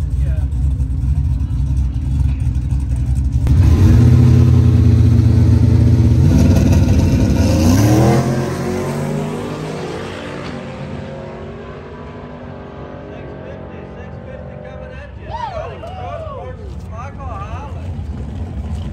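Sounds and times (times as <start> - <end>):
truck engine accelerating: 0.0 - 15.2.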